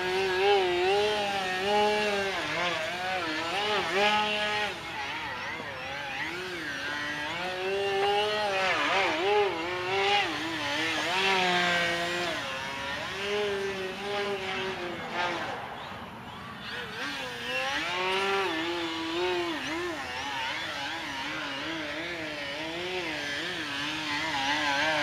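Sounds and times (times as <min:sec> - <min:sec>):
model plane motor whining: 0:00.0 - 0:25.0.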